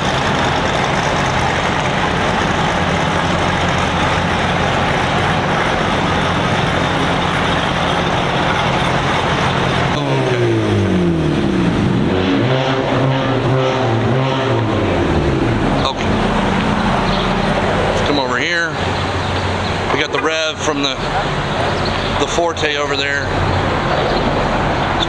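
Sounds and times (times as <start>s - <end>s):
car engine revving: 0.0s - 25.0s
traffic noise: 0.0s - 25.0s.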